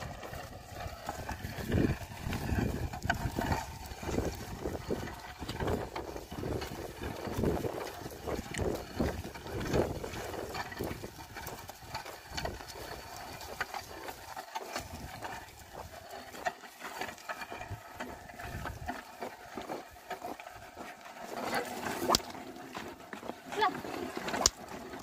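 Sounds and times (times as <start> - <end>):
hooves and footsteps on soil: 0.0 - 25.0.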